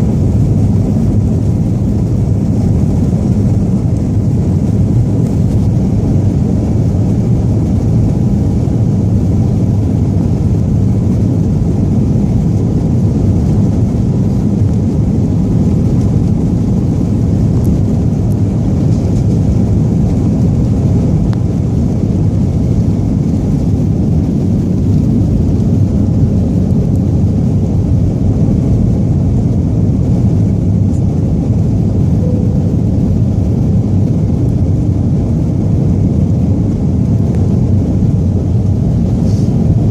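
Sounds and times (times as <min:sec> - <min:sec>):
jet engines rumbling in cabin: 0:00.0 - 0:39.9
rushing air: 0:00.0 - 0:39.9.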